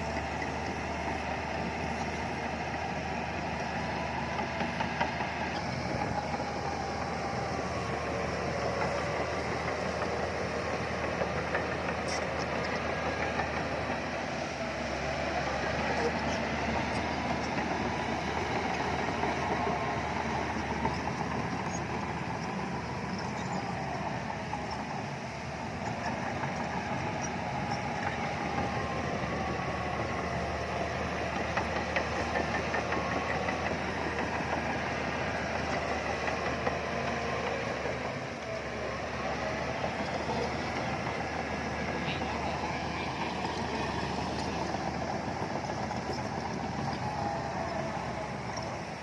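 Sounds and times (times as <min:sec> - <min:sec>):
faint clatter: 0:00.0 - 0:49.0
heavy diesel engine running: 0:00.0 - 0:49.0.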